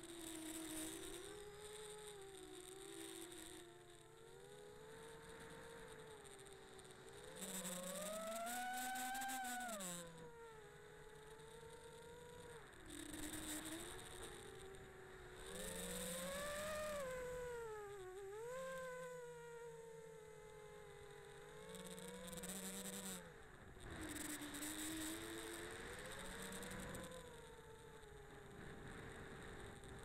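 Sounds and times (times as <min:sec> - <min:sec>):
drone motors whining: 0:00.1 - 0:30.0.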